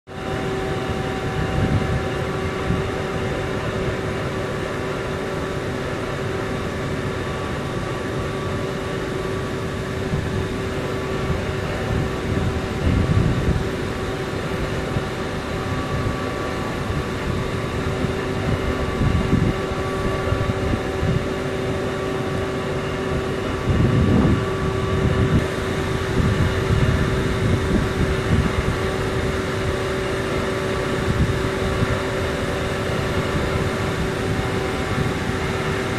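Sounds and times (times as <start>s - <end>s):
industrial machinery drone: 0.0s - 35.9s
wind buffeting microphone: 0.2s - 5.6s, 7.0s - 35.9s.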